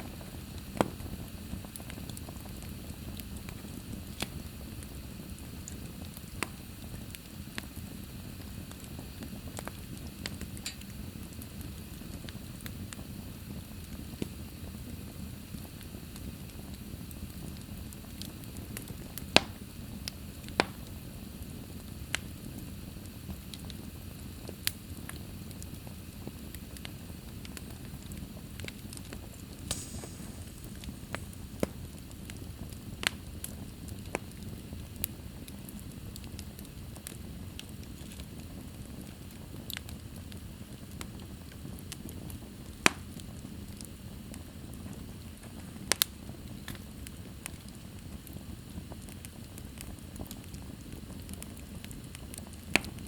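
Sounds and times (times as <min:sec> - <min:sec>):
fire popping and snapping: 0:00.0 - 0:53.0
low rumble of flames: 0:00.0 - 0:53.0.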